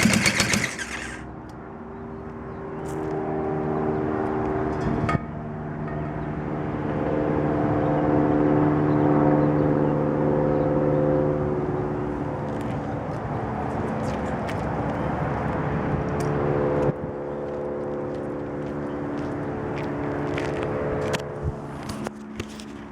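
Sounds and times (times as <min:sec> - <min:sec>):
motorcycle engine humming: 0:00.0 - 0:03.0, 0:06.7 - 0:22.9.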